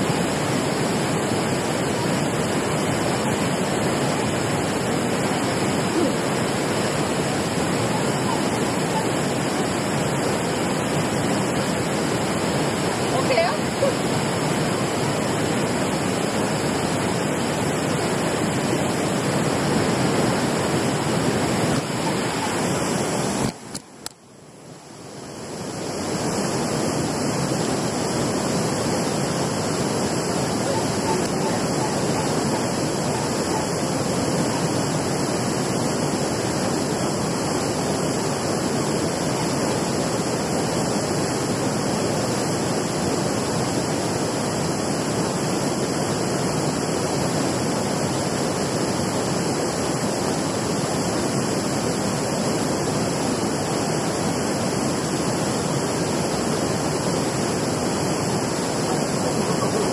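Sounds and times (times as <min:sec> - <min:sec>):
water rushing over a weir: 0:00.0 - 0:59.9.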